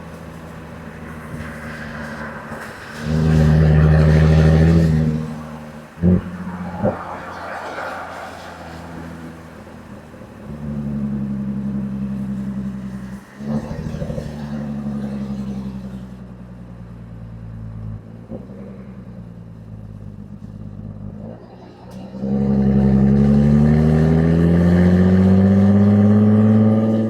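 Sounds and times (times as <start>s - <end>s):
car engine running at low revs: 0.0s - 27.0s.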